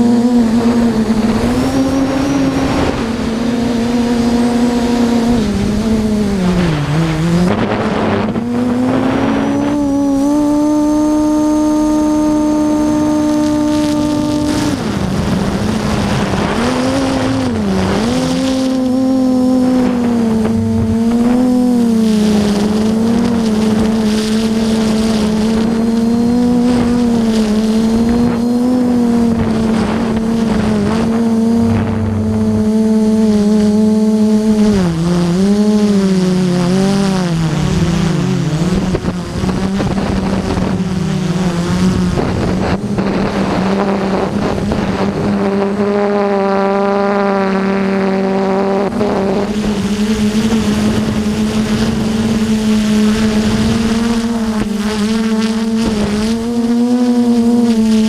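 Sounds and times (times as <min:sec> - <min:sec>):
drone motors and propellers whining: 0:00.0 - 0:58.0
wind on microphone: 0:00.0 - 0:58.0.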